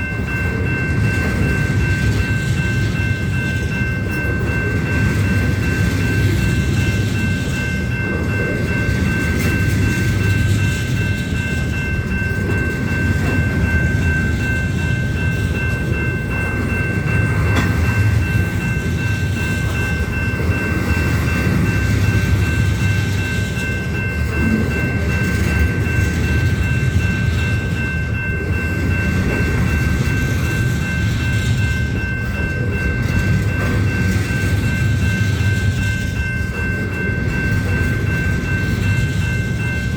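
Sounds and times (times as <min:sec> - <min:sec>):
train cars rumbling on rails: 0:00.0 - 0:39.9.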